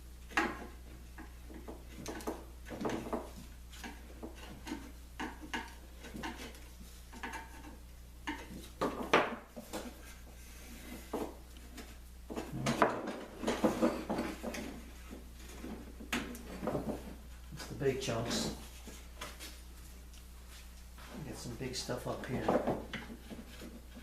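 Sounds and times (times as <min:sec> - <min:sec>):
hand tool scraping wood: 0:00.3 - 0:19.5, 0:21.1 - 0:24.0.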